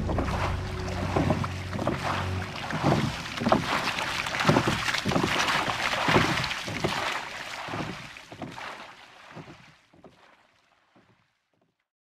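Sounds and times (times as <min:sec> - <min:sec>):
rushing water: 0:00.0 - 0:10.6
oars splashing: 0:00.0 - 0:11.1.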